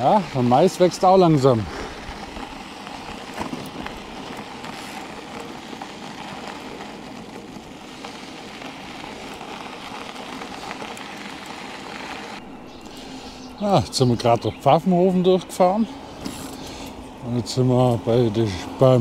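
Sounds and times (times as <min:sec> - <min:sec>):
bike tyres rolling: 0:00.0 - 0:19.0
riding wind: 0:00.0 - 0:19.0.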